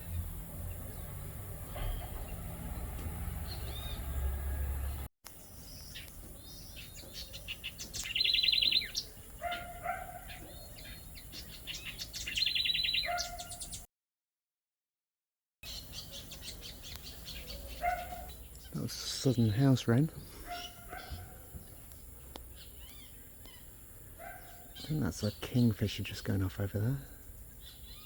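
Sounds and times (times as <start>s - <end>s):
wren singing trills: 0.0s - 13.9s, 15.6s - 28.0s.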